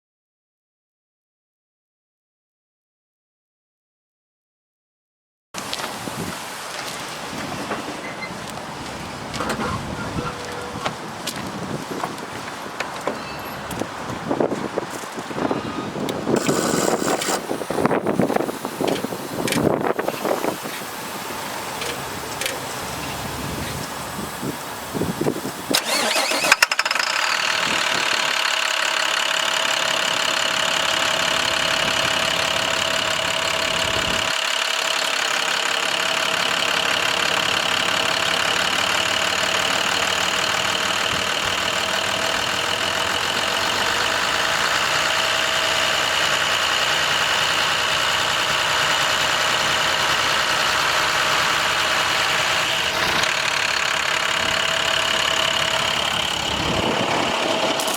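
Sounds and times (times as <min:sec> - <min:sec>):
diesel engine cranking and idling: 0:05.6 - 0:57.9.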